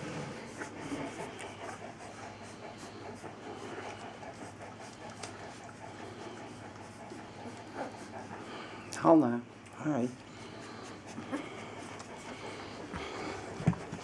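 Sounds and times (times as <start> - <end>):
puppies suckling: 0.0 - 14.0.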